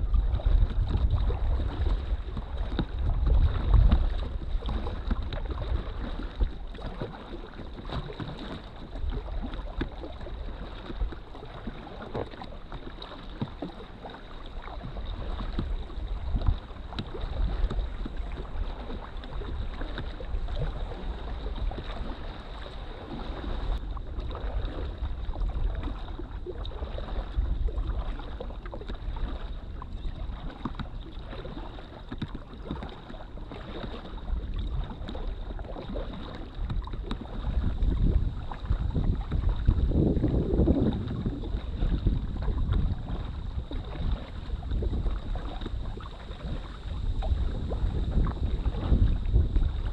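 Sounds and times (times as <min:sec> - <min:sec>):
water lapping against kayak: 0:00.0 - 0:49.9
wind buffeting microphone: 0:00.0 - 0:49.9.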